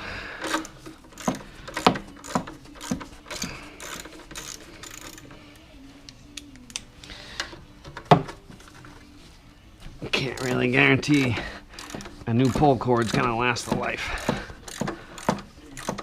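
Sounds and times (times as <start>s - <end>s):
light rattling of parts: 0.3s - 5.7s, 6.4s - 9.2s, 9.8s - 16.0s
metallic clicks from hand tools: 0.4s - 7.6s, 10.3s - 16.0s.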